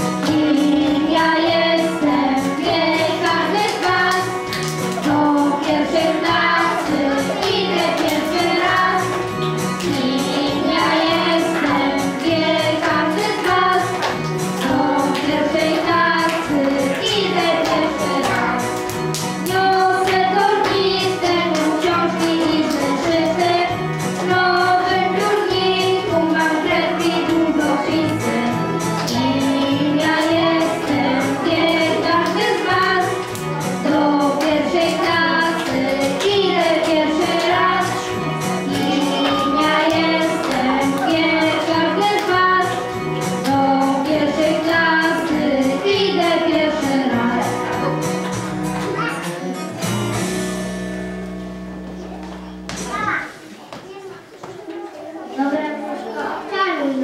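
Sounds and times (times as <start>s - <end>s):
children singing into microphone: 0.0s - 48.2s
instrumental accompaniment: 0.0s - 53.3s.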